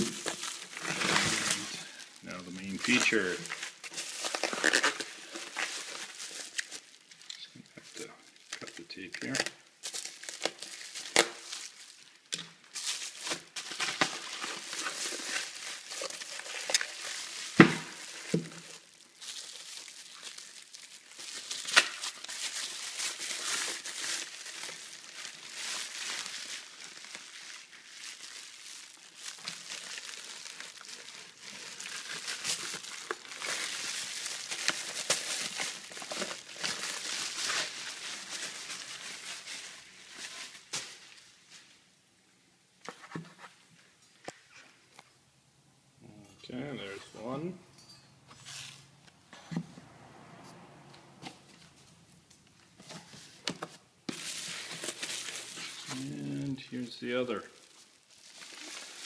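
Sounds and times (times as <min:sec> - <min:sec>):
packaging crinkling and rustling: 0:00.0 - 0:41.8, 0:51.2 - 0:59.0.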